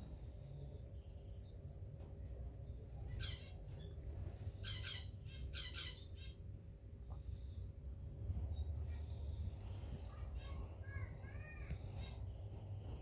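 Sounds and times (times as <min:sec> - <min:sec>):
birds chirping: 0:00.0 - 0:13.0
faint low rumble: 0:00.0 - 0:13.0.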